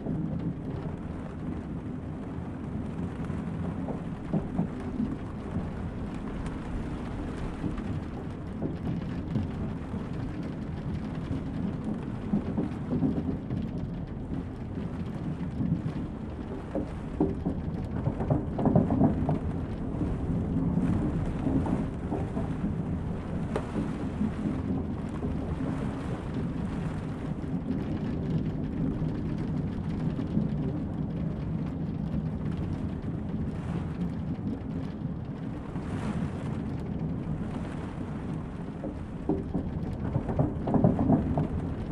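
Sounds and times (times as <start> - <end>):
heavy rain: 0.0 - 41.9
low rumble: 0.0 - 41.9.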